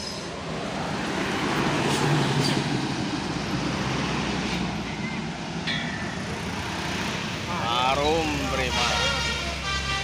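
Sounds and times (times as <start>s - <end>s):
bus passing by: 0.0s - 10.0s.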